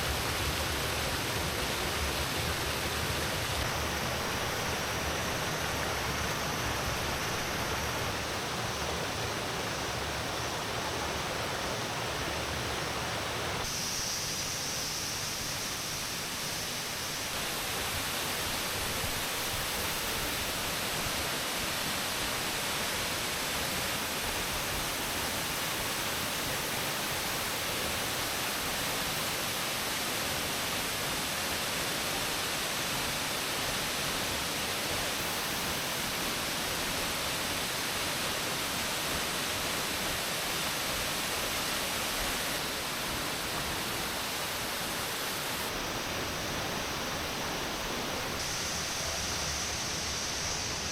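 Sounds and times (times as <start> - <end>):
waterfall roaring: 0.0 - 14.1, 15.3 - 50.9.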